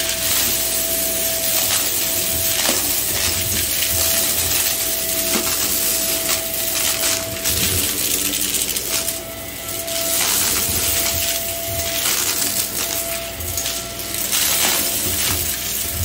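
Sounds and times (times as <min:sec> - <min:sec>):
debris clicking and rattling: 0:00.0 - 0:09.2, 0:09.8 - 0:16.0
vacuum cleaner running on carpet: 0:00.0 - 0:16.0.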